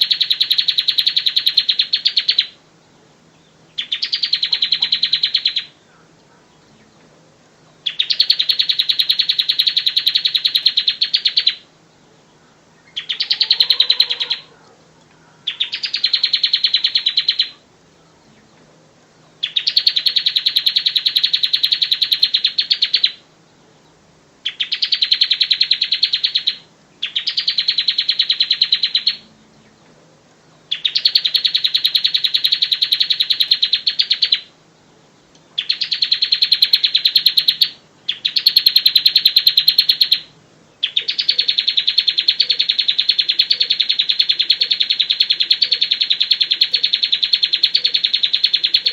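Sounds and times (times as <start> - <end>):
bird singing trilled phrases: 0.0 - 5.8, 6.5 - 14.5, 15.4 - 18.6, 19.2 - 29.9, 30.5 - 48.9
faint low hum: 0.0 - 43.8.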